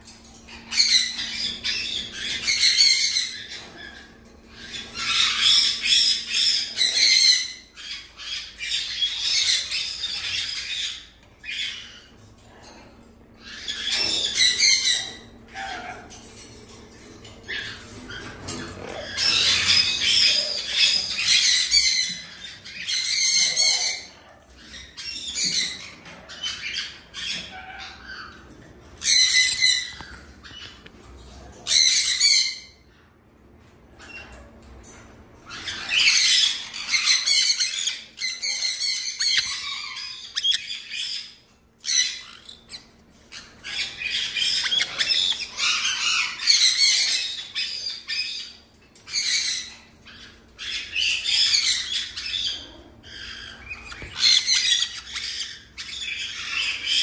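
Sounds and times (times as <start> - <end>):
parrots squawking: 0.1 - 57.0.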